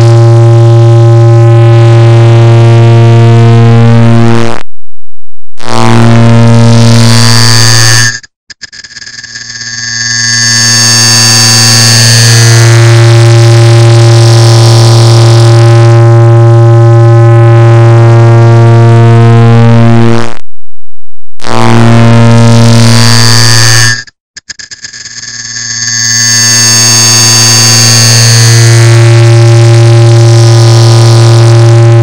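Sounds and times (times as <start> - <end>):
distorted low buzzing tone: 0.0 - 8.3, 9.2 - 24.1, 25.1 - 32.0.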